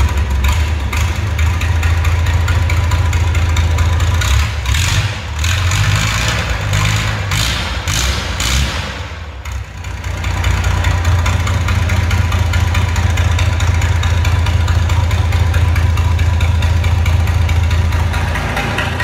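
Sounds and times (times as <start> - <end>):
large diesel engine running: 0.0 - 19.0.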